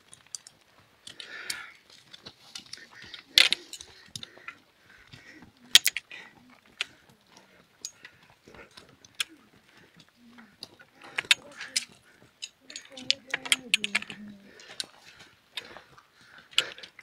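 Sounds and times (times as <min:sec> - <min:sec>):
clothing and gear rustling: 0:00.0 - 0:17.0
footsteps on trail: 0:00.0 - 0:17.0
trekking pole tips clicking: 0:00.0 - 0:17.0.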